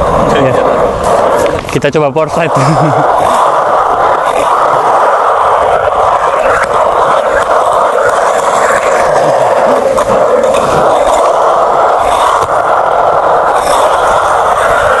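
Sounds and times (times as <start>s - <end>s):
skateboard bearings scraping concrete: 0.0s - 15.0s.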